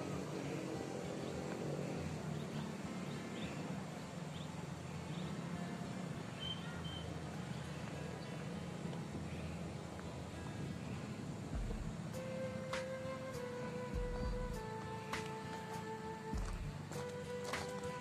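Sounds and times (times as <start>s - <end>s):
faint high chirps: 0.0s - 18.0s.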